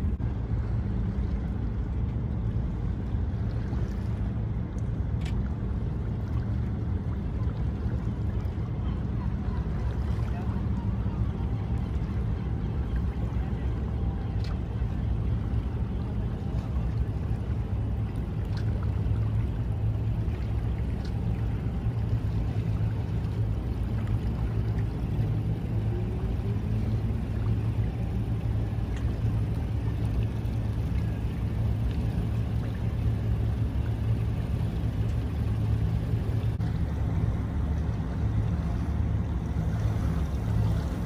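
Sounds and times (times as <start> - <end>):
ship engines rumbling: 0.0 - 41.0.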